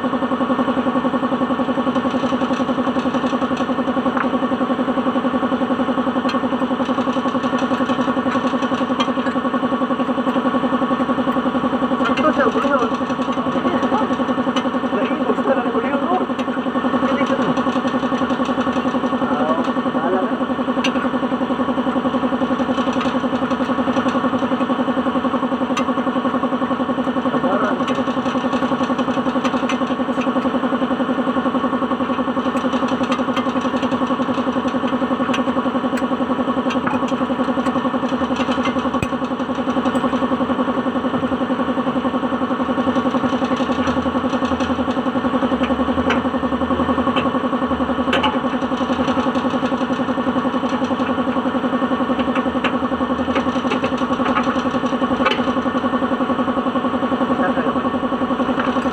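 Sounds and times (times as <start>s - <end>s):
car engine running steadily: 0.0s - 58.9s.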